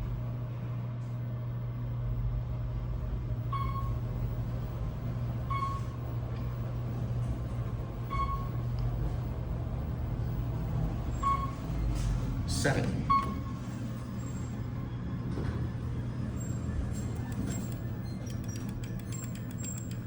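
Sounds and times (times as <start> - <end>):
elevator low hum: 0.0 - 20.0.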